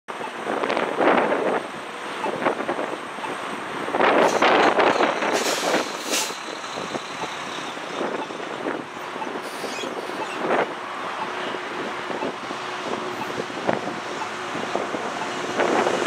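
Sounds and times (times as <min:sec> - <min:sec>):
road traffic going by: 0:00.1 - 0:16.0.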